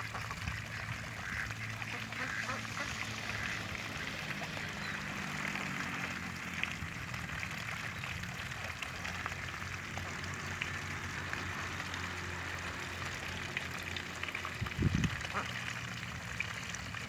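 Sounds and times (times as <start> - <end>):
ducks dabbling in water: 0.0 - 17.0.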